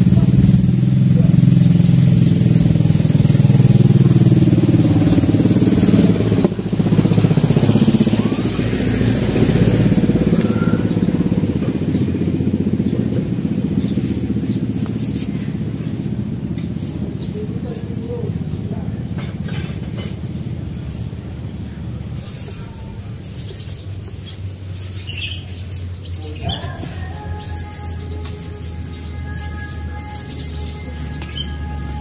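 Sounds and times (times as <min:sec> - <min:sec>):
small engine running loudly: 0:00.0 - 0:32.0.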